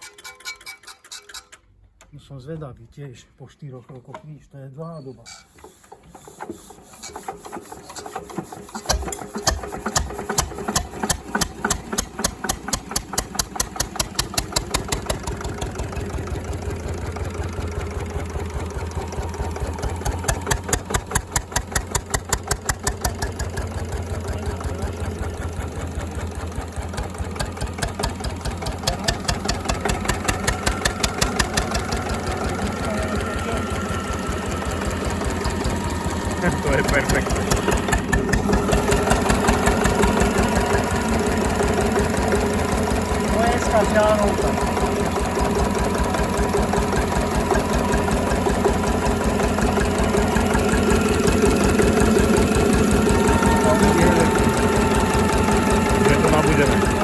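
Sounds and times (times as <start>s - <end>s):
diesel engine running: 6.7s - 57.0s.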